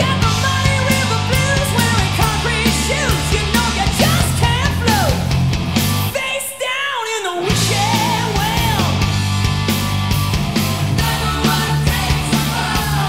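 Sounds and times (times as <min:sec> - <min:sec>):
heavy bass and drums: 0:00.0 - 0:06.2, 0:07.5 - 0:13.0
hard rock band playing: 0:00.0 - 0:06.6, 0:07.4 - 0:13.0.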